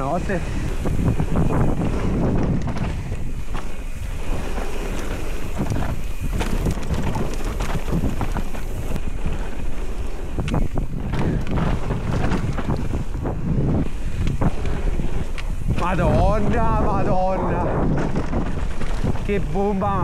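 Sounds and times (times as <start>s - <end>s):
bike clacking and rattling: 0.0s - 20.0s
bike rumbling: 0.0s - 20.0s
wind buffeting microphone: 0.0s - 20.0s.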